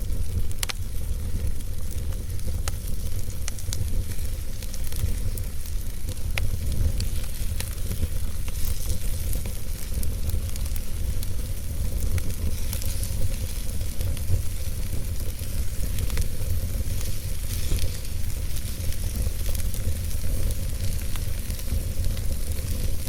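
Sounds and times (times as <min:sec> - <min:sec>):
fire hiss: 0:00.0 - 0:23.0
logs crackling and popping: 0:00.0 - 0:23.0
low rumble of fire: 0:00.0 - 0:23.0.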